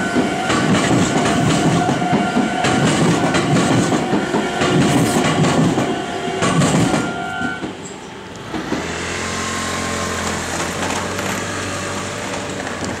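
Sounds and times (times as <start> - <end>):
train rolling over crossing: 0.0 - 13.0.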